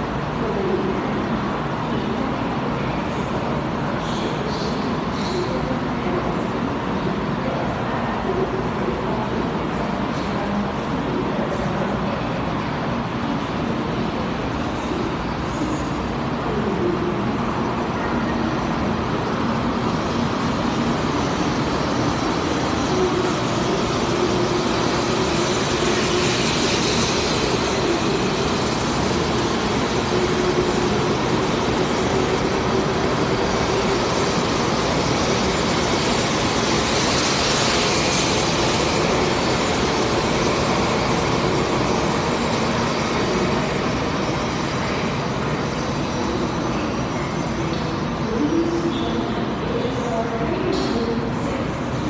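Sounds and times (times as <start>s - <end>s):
train wheels and motors rumbling: 0.0s - 52.0s.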